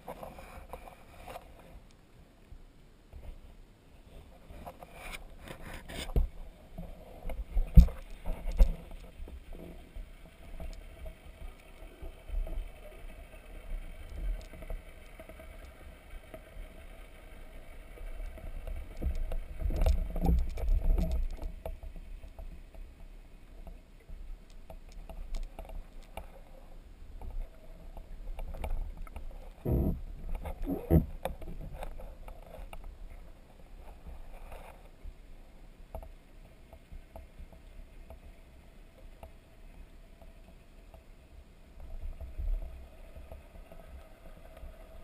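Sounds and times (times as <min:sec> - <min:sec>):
underwater rumble of moving water: 0:04.1 - 0:45.0.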